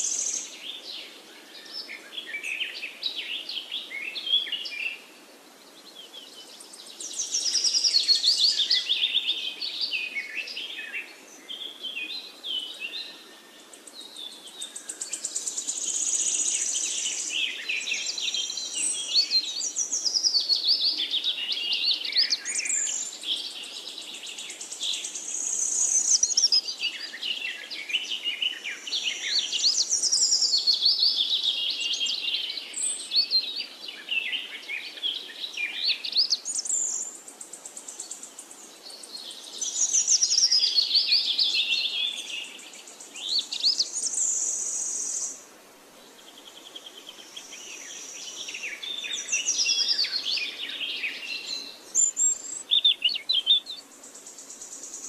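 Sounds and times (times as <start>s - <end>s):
birds chirping and trilling: 5.7s - 45.4s, 46.0s - 55.0s.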